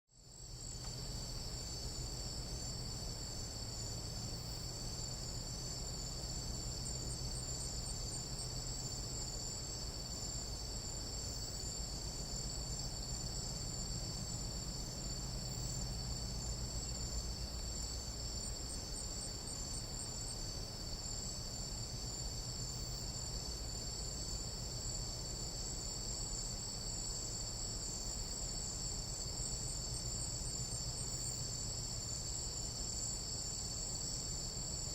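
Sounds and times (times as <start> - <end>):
insects buzzing trill: 0.2 - 34.9.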